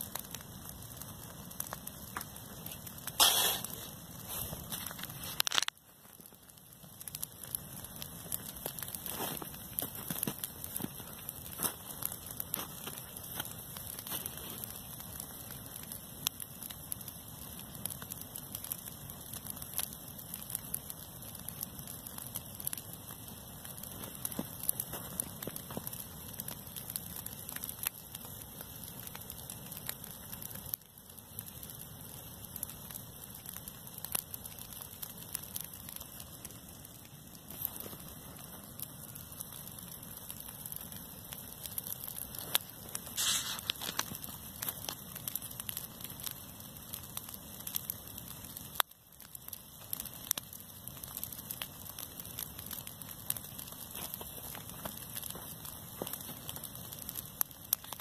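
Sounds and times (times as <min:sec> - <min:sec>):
grass fire crackling: 0:00.0 - 0:58.0.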